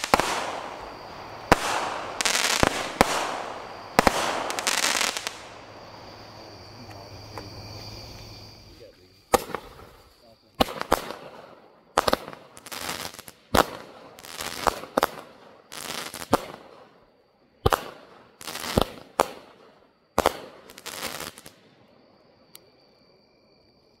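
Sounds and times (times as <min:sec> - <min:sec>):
fireworks bangs with hiss: 0:00.0 - 0:08.4, 0:09.3 - 0:16.9, 0:17.6 - 0:21.6
faint insect trill: 0:00.0 - 0:24.0.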